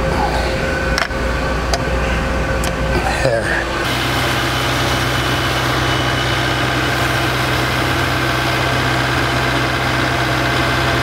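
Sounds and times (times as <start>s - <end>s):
tractor diesel engine idling: 0.1s - 11.0s.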